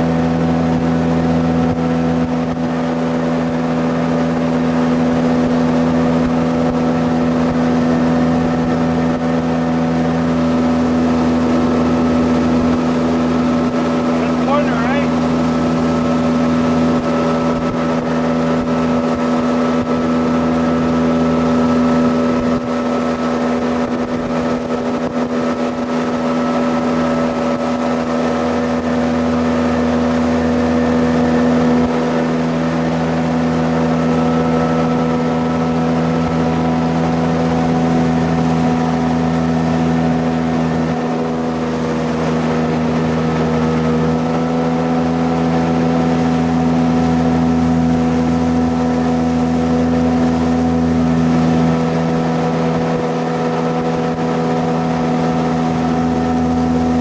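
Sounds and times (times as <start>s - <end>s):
jet boat engine drone: 0.0s - 57.0s.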